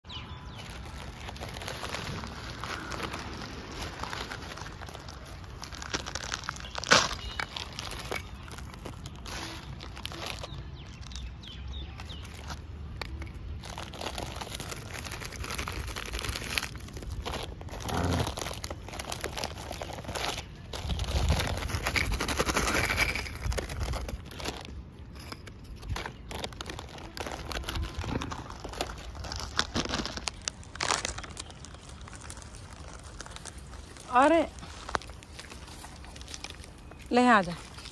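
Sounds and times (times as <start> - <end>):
plastic litter crinkling and crunching: 0.0 - 37.9
loud sharp crackle: 0.1 - 37.9.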